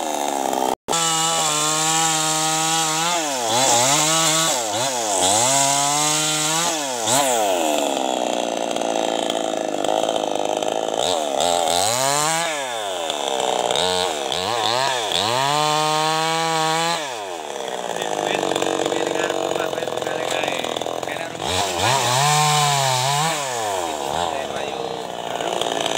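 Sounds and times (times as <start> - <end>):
chainsaw revving and cutting wood: 0.0 - 25.9.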